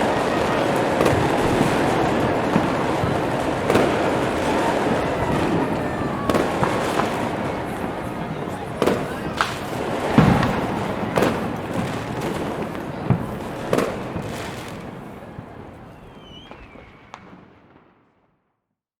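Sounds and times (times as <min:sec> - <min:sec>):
fireworks bangs: 0:00.0 - 0:18.2
fireworks crackle: 0:00.0 - 0:18.2.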